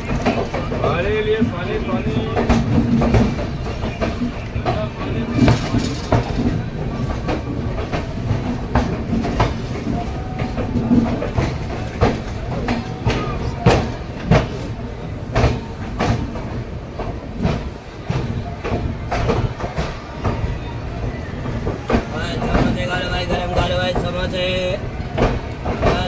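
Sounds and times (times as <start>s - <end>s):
train rumbling on track: 0.0s - 26.0s
wheels clacking over rail joints: 0.0s - 26.0s.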